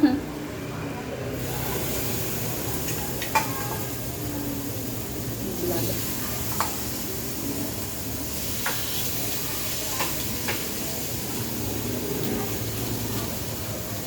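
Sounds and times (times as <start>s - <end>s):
food sizzling on grill: 1.3s - 14.0s.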